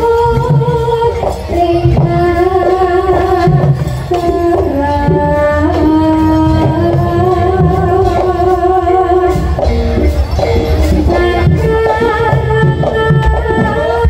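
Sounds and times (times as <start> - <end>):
kendang drums beating: 0.0 - 14.0
gamelan melody: 1.6 - 14.0.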